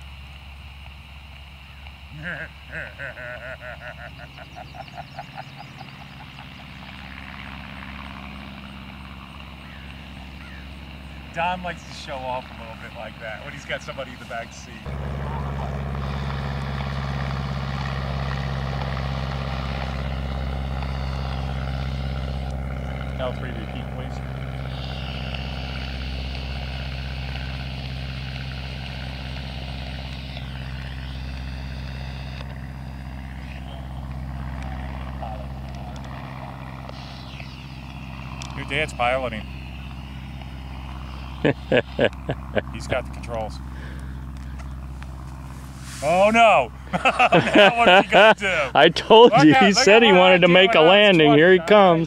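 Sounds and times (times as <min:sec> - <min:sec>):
light plane engine droning: 0:00.0 - 0:52.0
fast pulsing call: 0:01.6 - 0:52.0.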